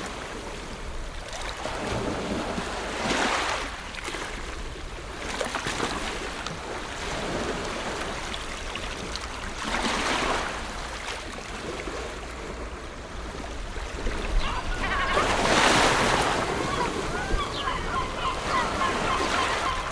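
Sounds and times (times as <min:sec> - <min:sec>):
ocean waves washing on shore: 0:00.0 - 0:19.9.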